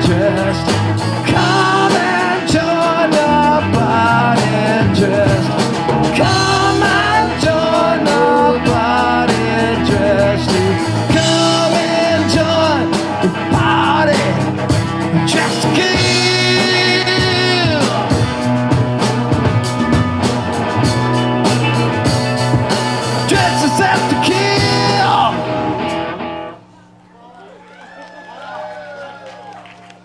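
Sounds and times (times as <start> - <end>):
steady drum beat: 0.0 - 26.2
electric guitar: 0.0 - 26.7
bass guitar: 0.0 - 27.1.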